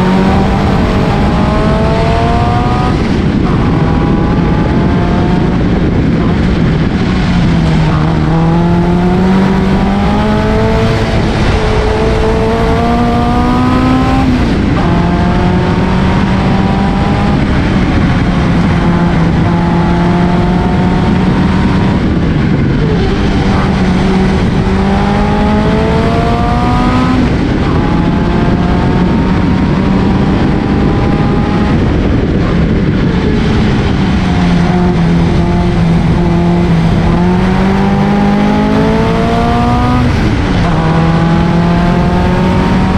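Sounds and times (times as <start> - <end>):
racing car engine accelerating: 0.0 - 42.9
wind and road rush: 0.0 - 42.9.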